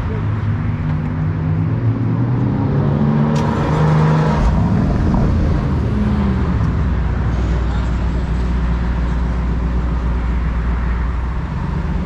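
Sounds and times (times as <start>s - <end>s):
car engine pulling away: 0.8s - 12.0s.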